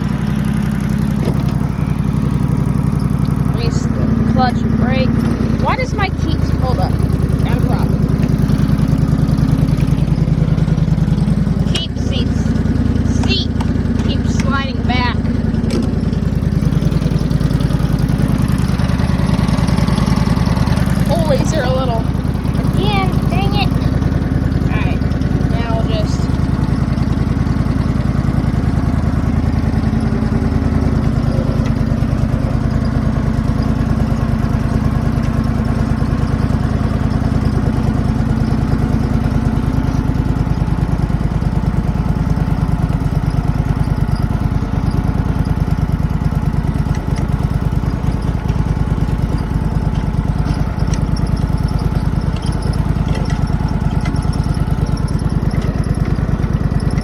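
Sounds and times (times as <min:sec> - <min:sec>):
riding lawn mower engine: 0:00.0 - 0:57.0.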